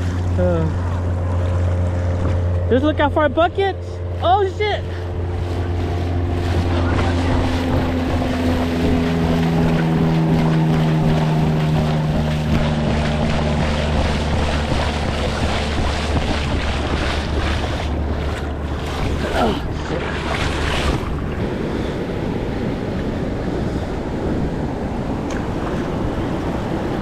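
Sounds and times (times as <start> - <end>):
steady drone: 0.0 - 26.9
surf washing up beach: 4.0 - 27.0
wind buffeting microphone: 4.0 - 27.0.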